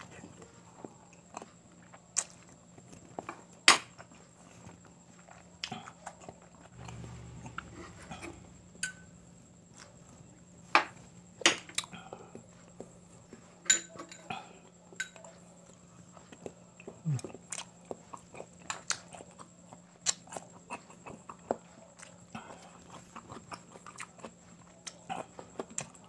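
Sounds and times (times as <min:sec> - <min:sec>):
close chewing with mouth smacks: 0:00.0 - 0:08.6, 0:09.6 - 0:26.0.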